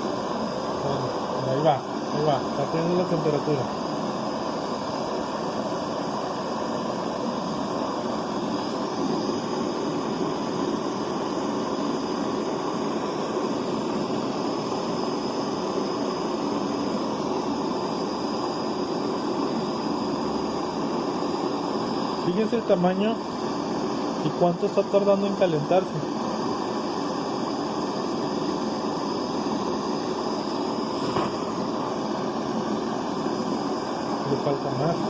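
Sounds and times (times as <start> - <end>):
torch flame hissing: 0.0 - 35.0.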